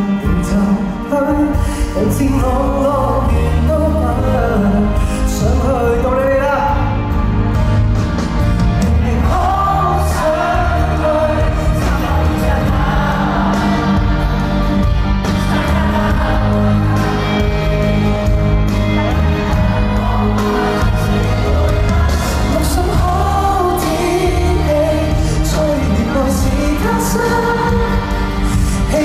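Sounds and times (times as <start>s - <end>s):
person singing: 0.0s - 7.4s, 8.8s - 29.0s
live pop band playing: 0.0s - 29.0s.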